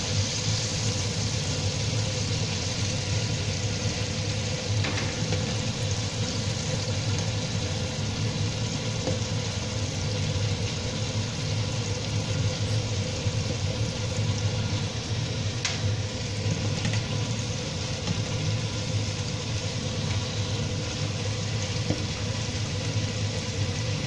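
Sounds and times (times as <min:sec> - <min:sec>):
chicken deep-frying in oil: 0:00.0 - 0:24.0.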